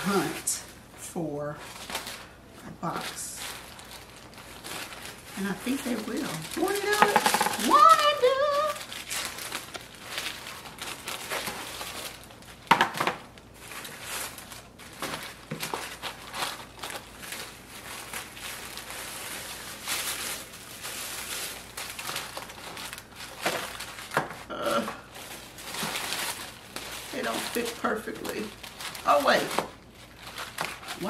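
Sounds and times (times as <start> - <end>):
packaging crinkling and rustling: 0.0 - 31.0.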